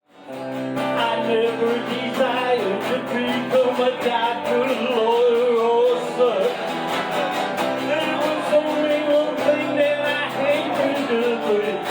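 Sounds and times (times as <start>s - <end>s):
acoustic guitar strumming: 0.1s - 11.9s.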